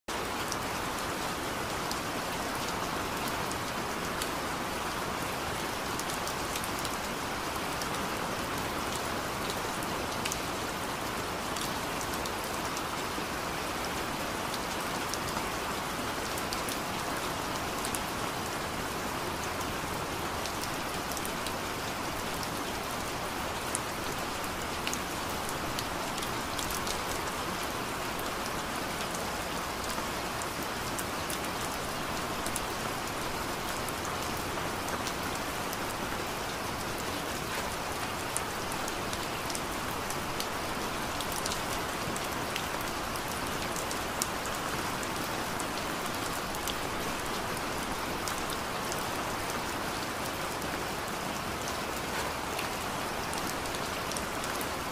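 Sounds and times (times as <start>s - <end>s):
rain falling: 0.1s - 54.9s.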